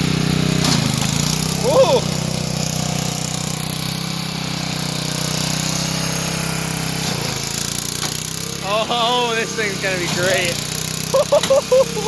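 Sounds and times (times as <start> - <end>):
small mower engine running: 0.0 - 12.0.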